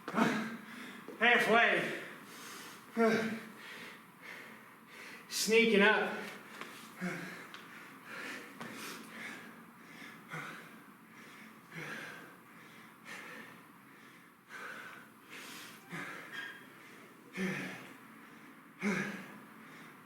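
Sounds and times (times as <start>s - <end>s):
man breathing heavily: 0.0s - 5.3s, 6.1s - 20.0s.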